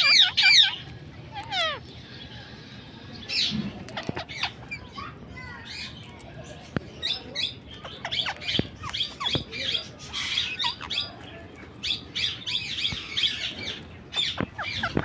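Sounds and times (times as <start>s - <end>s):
beaks clicking on seeds: 0.0s - 2.2s, 3.2s - 15.0s
parakeets chirping and squawking: 0.0s - 15.0s.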